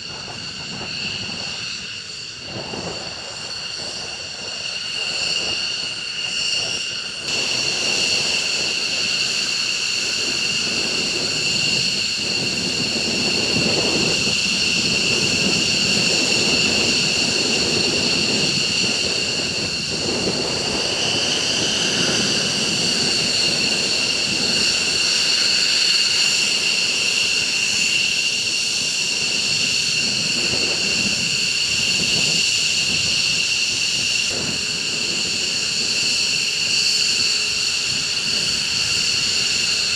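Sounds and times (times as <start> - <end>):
jet engines whining and roaring: 0.0 - 39.9.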